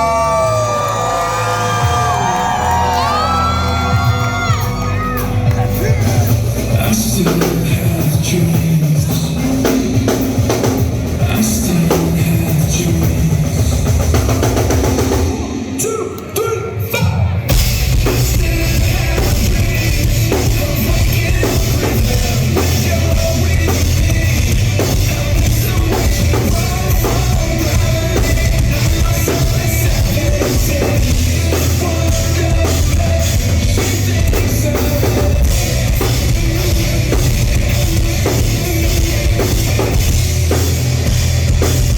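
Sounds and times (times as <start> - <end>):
pounding drum kit: 0.0 - 41.9
rock band playing live: 0.0 - 41.9.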